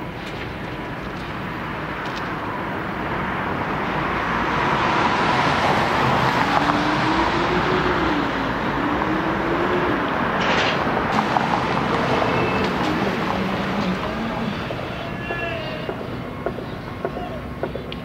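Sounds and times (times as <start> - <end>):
rumbling din: 0.0 - 18.0
vehicle engine: 0.0 - 18.0.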